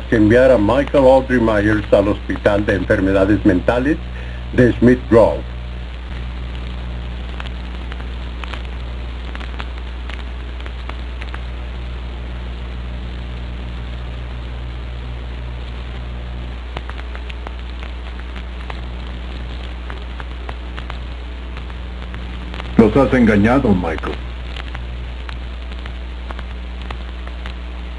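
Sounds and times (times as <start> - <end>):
low electrical hum: 0.0 - 27.9
steady hiss: 0.0 - 27.9
clicks and crackles: 5.4 - 27.9.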